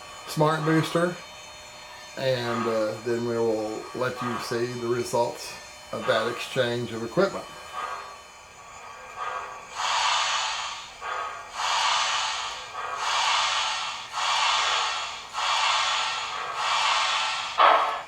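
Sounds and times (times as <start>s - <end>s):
model steam locomotive chuffs: 0.0s - 18.0s.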